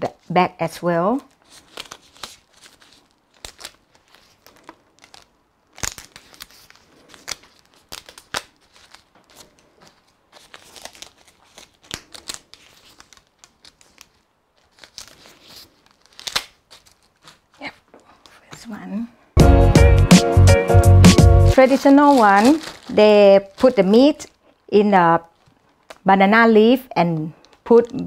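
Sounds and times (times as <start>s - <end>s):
plastic bag crinkling: 1.0s - 18.8s, 21.5s - 28.0s.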